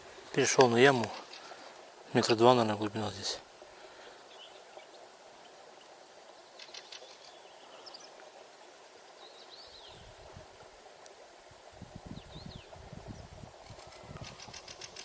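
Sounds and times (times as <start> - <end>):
small birds chirping: 0.3 - 10.2, 12.0 - 15.0.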